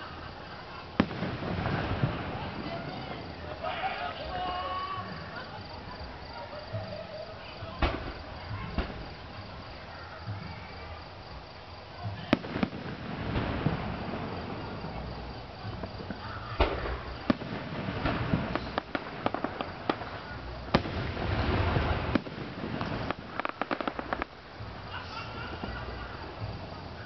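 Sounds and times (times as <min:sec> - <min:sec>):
faint insect chirping: 0:00.0 - 0:27.0
fireworks booming: 0:00.0 - 0:27.0
fireworks crackling: 0:00.0 - 0:27.0.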